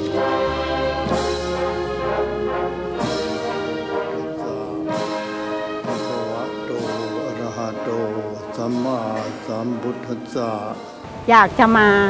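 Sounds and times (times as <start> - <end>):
orchestral music with brass: 0.0 - 12.0.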